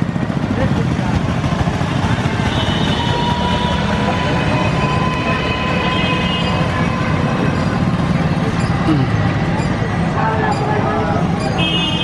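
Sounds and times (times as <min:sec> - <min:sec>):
motorcycles passing: 0:00.0 - 0:12.0.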